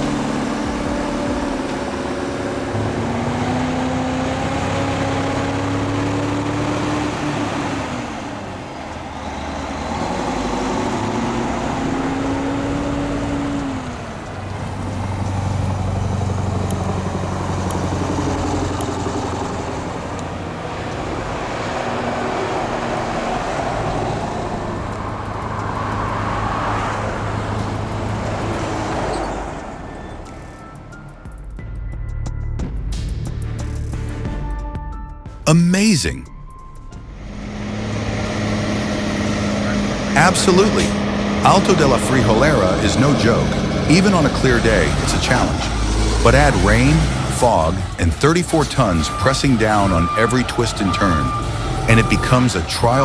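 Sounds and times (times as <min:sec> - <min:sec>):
diesel truck engine pulling: 0:00.0 - 0:32.5, 0:35.5 - 0:53.0.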